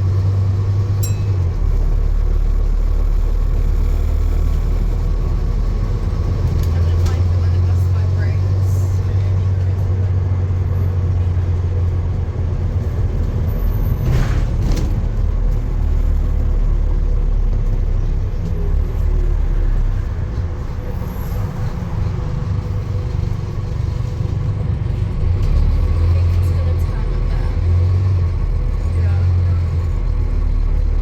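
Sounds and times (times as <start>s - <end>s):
motor vehicle rumbling: 0.0s - 31.0s.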